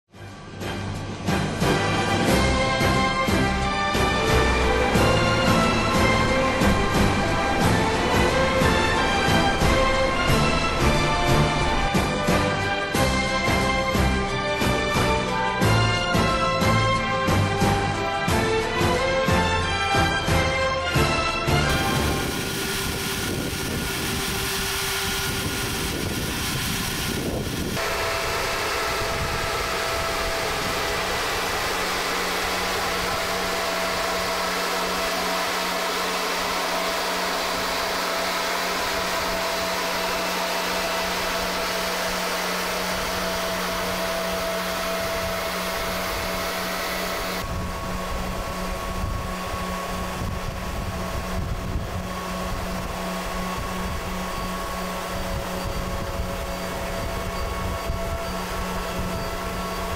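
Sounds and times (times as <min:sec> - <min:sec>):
machine engine hiss and hum: 0:00.2 - 0:59.9.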